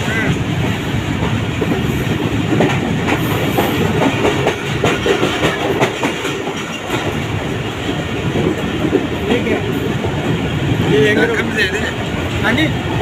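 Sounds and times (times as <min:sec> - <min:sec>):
train rumbling: 0:00.0 - 0:13.0
wheels clattering over rail joints: 0:00.2 - 0:13.0.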